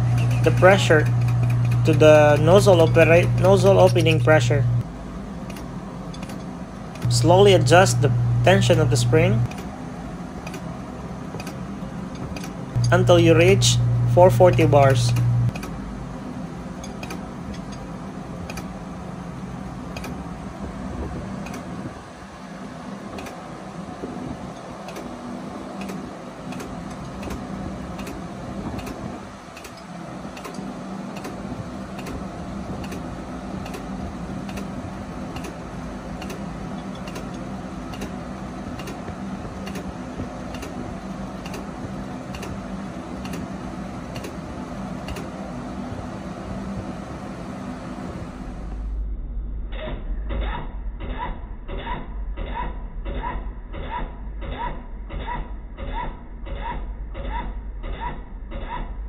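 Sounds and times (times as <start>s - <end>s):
machinery humming: 0.0s - 50.7s.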